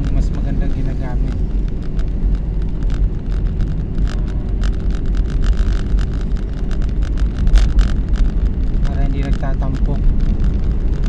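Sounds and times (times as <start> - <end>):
car engine and road rumble: 0.0 - 11.0
light irregular rattle: 0.0 - 11.0.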